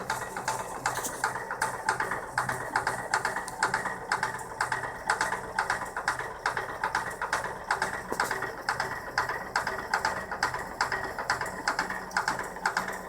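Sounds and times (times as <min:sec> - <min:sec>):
pump knocking with rapid clicks: 0:00.0 - 0:13.0.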